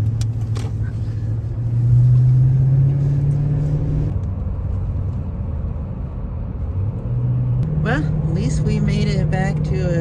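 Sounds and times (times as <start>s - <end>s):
road rumble: 0.0s - 10.0s
truck engine: 0.0s - 10.0s.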